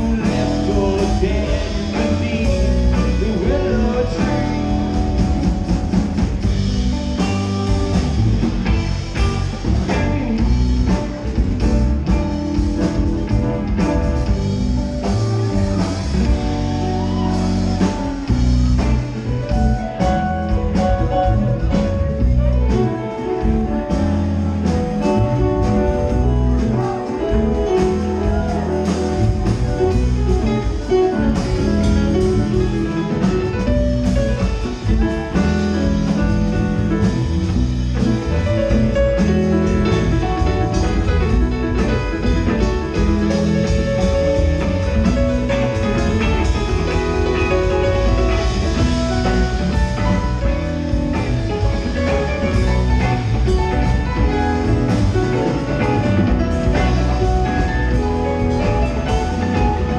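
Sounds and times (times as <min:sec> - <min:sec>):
drum kit: 0:00.0 - 0:59.9
electric guitars: 0:00.0 - 0:59.9
keyboards: 0:00.0 - 0:59.9.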